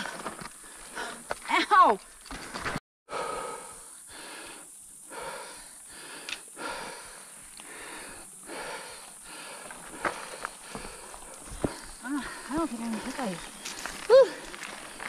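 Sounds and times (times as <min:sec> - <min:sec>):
heavy rapid breathing: 0:00.0 - 0:01.3, 0:03.1 - 0:15.0.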